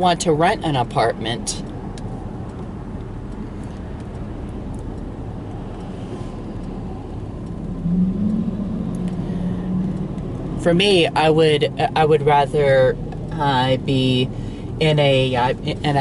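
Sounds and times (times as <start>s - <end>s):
road and engine noise in car: 0.0s - 16.0s.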